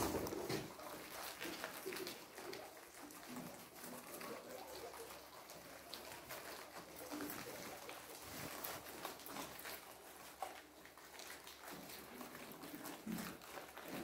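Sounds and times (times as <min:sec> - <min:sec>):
guinea pigs munching leaves: 0:00.0 - 0:14.0.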